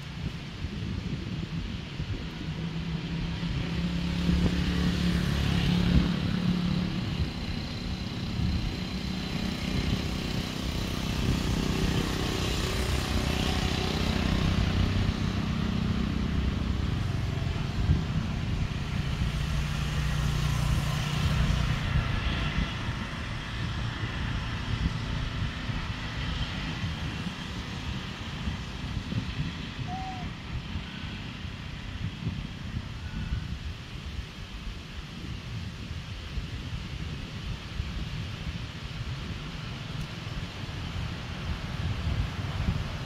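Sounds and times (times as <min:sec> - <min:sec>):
traffic passing: 0:00.0 - 0:43.0.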